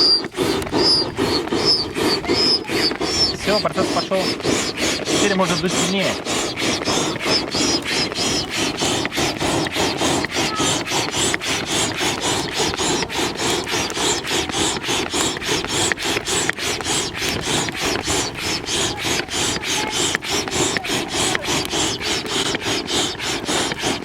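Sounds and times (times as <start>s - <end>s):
air pump rasping whoosh: 0.0s - 24.0s.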